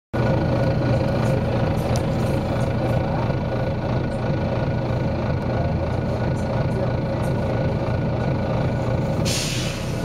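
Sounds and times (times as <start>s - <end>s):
diesel bus engine running: 0.1s - 10.0s.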